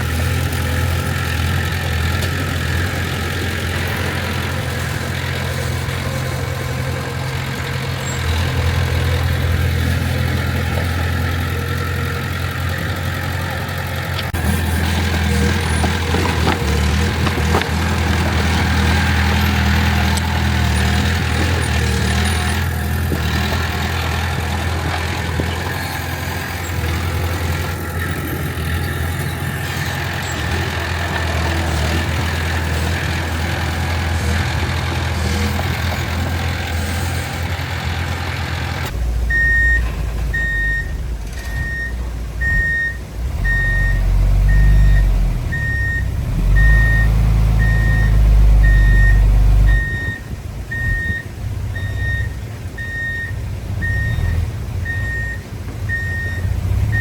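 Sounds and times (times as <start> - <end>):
truck backup alarm beeping: 0.0 - 37.9, 38.9 - 57.0
bulldozer diesel engine running: 0.0 - 57.0
truck diesel engine rumble: 0.0 - 57.0.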